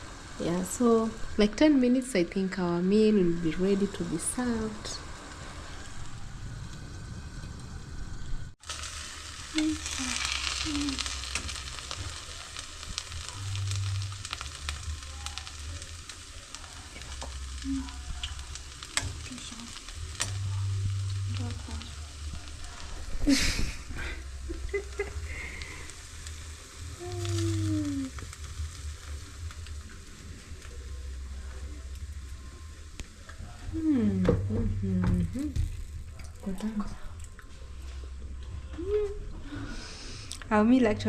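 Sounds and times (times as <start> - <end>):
food sizzling in a pot: 0.0 - 40.8.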